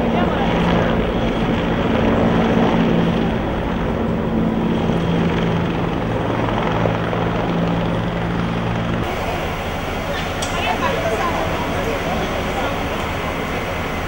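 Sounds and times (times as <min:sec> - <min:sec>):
helicopter rotor drone: 0:00.0 - 0:14.0.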